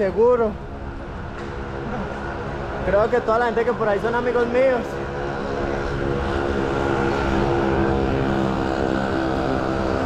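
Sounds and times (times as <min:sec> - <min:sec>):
engine running low hum: 0:00.0 - 0:10.0.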